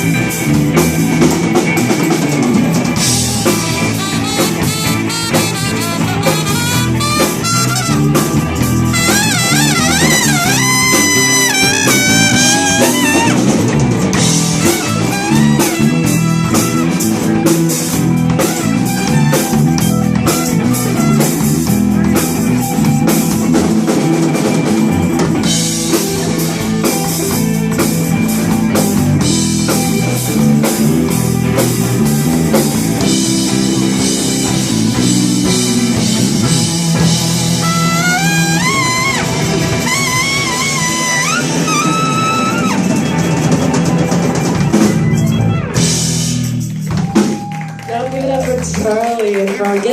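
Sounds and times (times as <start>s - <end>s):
lead guitar melody: 0.0s - 47.2s
drum kit beat: 0.0s - 49.9s
rock band playing: 0.0s - 49.9s.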